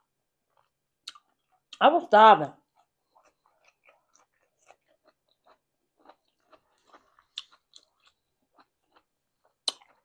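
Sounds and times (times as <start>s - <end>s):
person chewing food: 0.4s - 1.8s, 2.6s - 10.0s.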